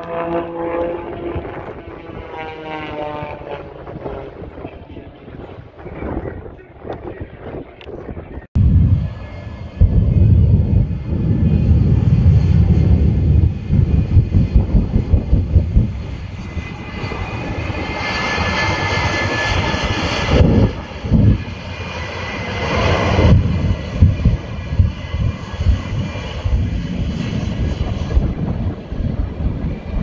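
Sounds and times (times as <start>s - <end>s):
plane flying past: 0.0s - 30.0s
wind buffeting microphone: 0.0s - 30.0s.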